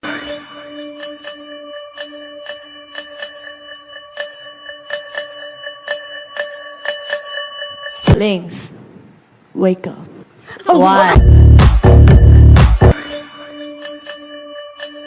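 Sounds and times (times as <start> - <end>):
bell-like alarm chime: 0.0 - 8.4, 11.0 - 15.0.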